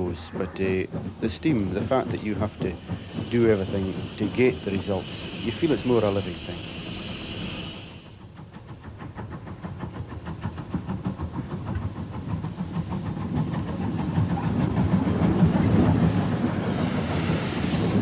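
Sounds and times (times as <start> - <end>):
steam train running: 0.0 - 18.0.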